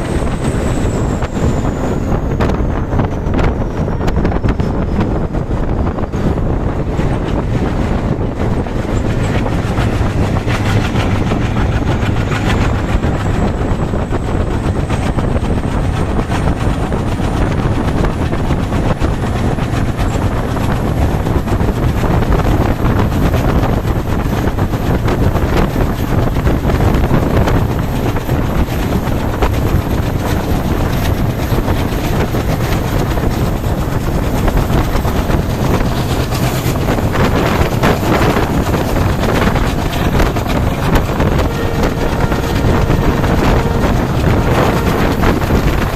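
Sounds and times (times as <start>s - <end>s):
rushing wind: 0.0s - 45.9s
train wheels rumbling on rail: 0.0s - 45.9s.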